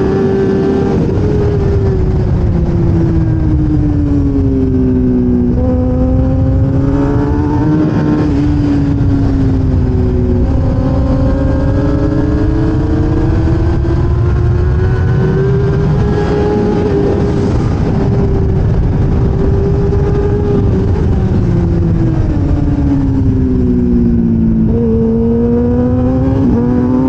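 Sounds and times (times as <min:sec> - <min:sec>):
racing motorcycle engine: 0:00.0 - 0:27.0
wind noise rushing: 0:00.0 - 0:27.0.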